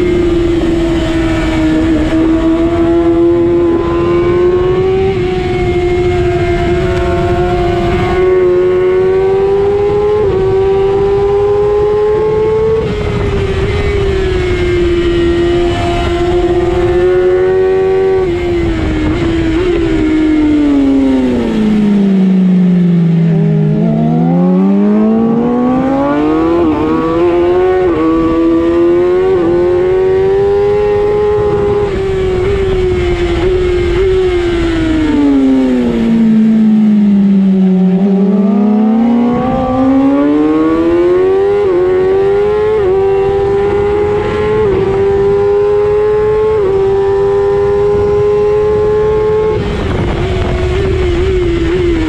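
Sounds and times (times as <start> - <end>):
racing motorcycle engine revving: 0.0 - 52.0
wind rush: 0.0 - 52.0.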